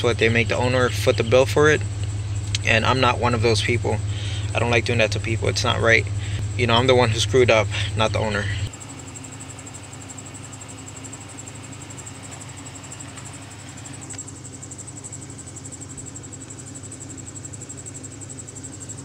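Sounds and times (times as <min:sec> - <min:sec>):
car engine idling: 0:00.0 - 0:19.0
faint high whine: 0:00.0 - 0:19.0.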